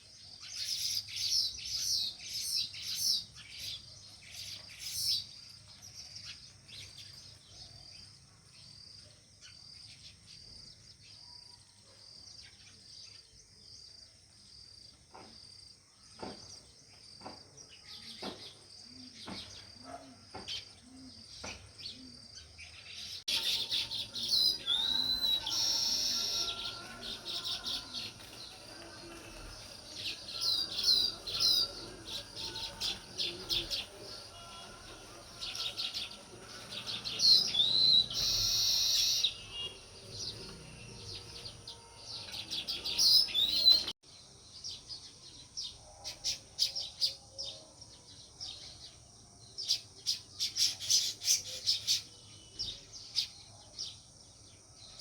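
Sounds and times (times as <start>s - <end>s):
sparrows chirping: 0.0s - 11.2s, 16.2s - 55.0s.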